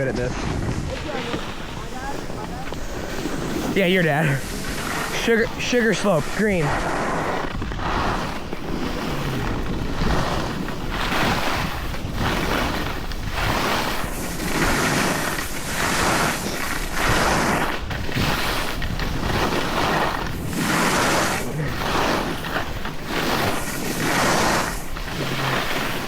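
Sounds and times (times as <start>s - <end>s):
skis scraping packed snow: 0.0s - 26.0s
wind on microphone: 0.0s - 26.0s.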